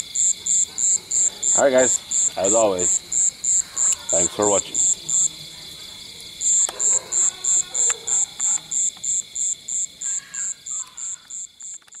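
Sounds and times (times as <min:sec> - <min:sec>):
high-pitched insect drone: 0:00.0 - 0:11.9
pulsing insect chirp: 0:00.0 - 0:12.0.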